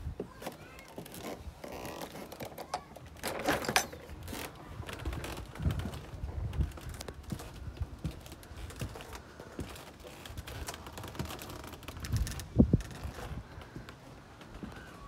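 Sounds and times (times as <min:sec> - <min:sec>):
footsteps on hollow decking: 0:00.0 - 0:03.3, 0:03.9 - 0:15.0.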